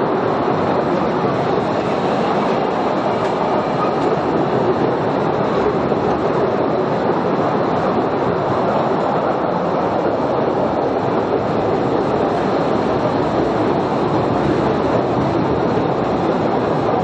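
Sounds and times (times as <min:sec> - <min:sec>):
rattling carriages: 0:00.0 - 0:17.0
train wheels on rails: 0:00.0 - 0:17.0.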